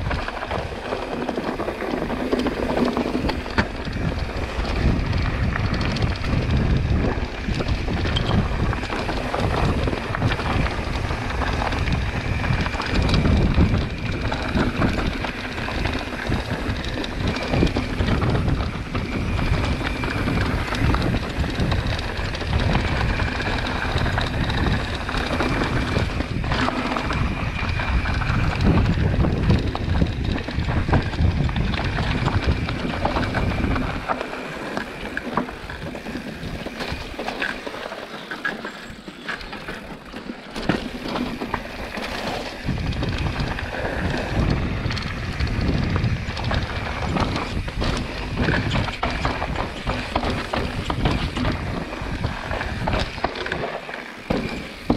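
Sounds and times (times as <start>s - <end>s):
wind rumble on microphone: 0.0s - 38.1s, 39.6s - 54.9s
bike rattling with sharp knocks: 0.0s - 54.9s
tyres running over rock and dirt: 0.0s - 54.9s.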